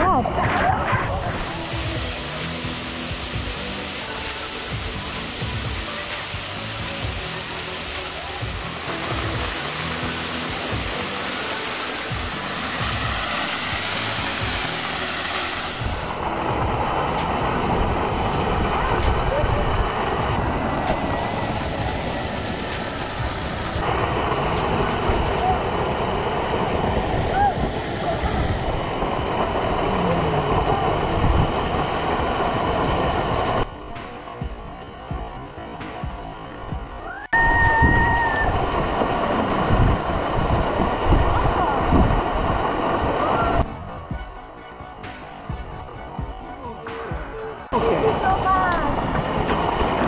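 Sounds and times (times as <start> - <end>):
background music: 0.0 - 50.0
waterfall rushing into rock pool: 0.9 - 34.4, 36.5 - 43.8.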